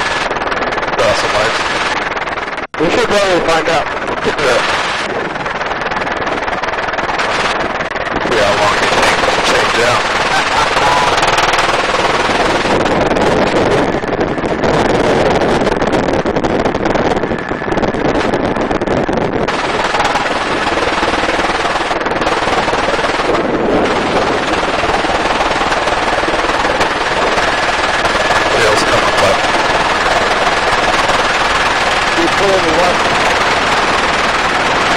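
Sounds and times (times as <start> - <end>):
helicopter rotor chopping: 0.0 - 34.9.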